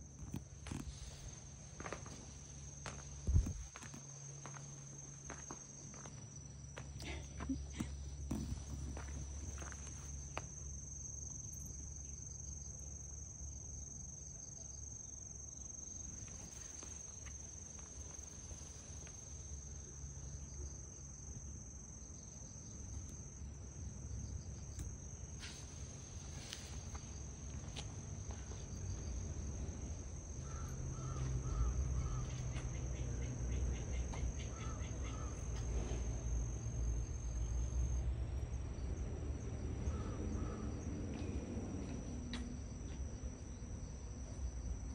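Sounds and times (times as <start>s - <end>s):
high-pitched insect trill: 0.0s - 44.9s.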